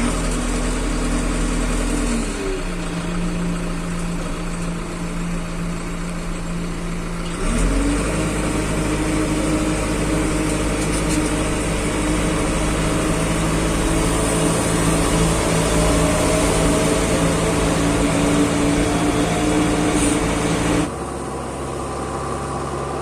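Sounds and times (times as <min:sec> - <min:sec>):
diesel engine idling and revving: 0:00.0 - 0:23.0.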